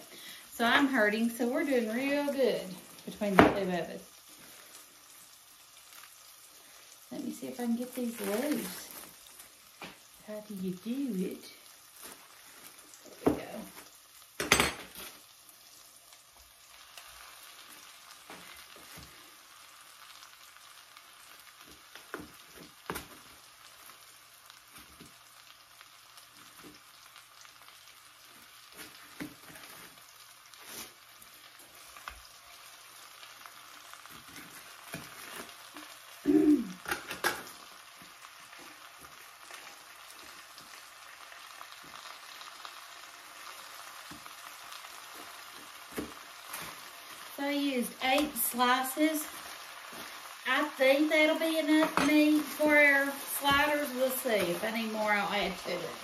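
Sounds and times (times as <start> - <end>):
meat and onions sizzling in oil: 0.0 - 56.0.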